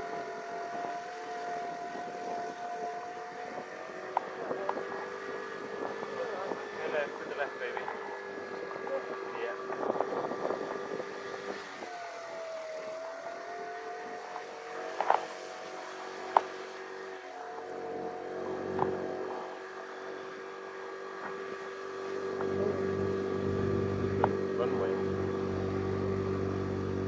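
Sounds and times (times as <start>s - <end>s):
motor scooter running: 0.0s - 27.0s.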